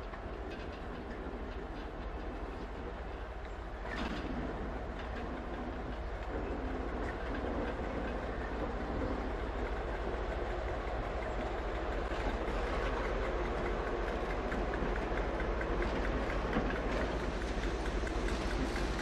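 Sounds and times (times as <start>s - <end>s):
diesel locomotive engine rumbling: 0.0s - 19.0s
wheel clatter over track: 0.0s - 19.0s.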